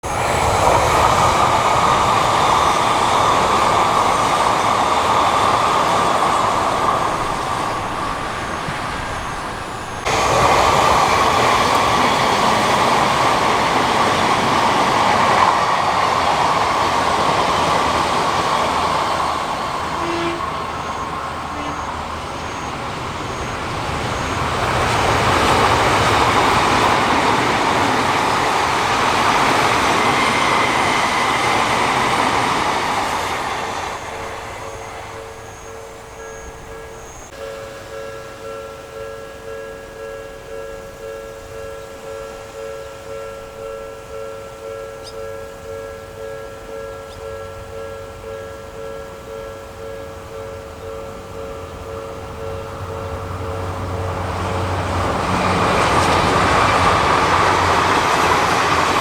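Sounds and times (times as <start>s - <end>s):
electric train rail noise: 0.0s - 59.0s.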